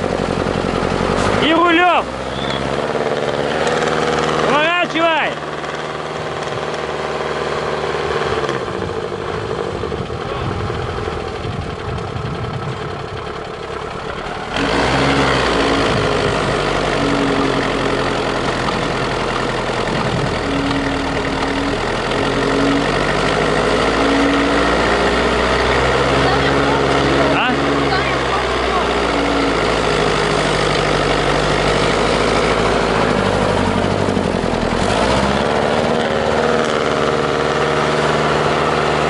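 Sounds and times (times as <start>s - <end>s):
truck engine under load: 0.0s - 39.0s.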